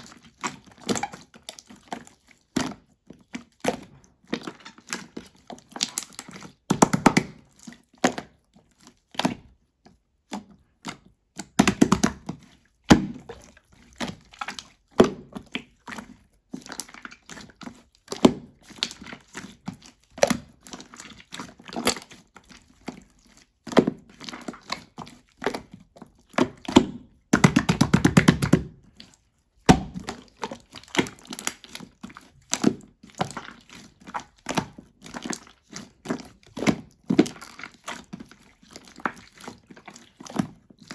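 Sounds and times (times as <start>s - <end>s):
slime squelching and popping: 0.0s - 40.9s.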